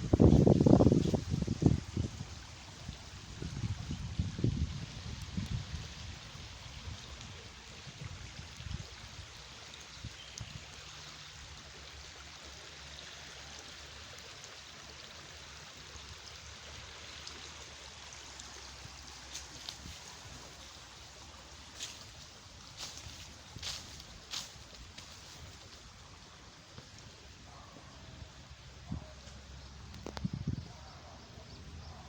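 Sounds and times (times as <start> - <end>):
river water flowing: 0.0 - 30.1.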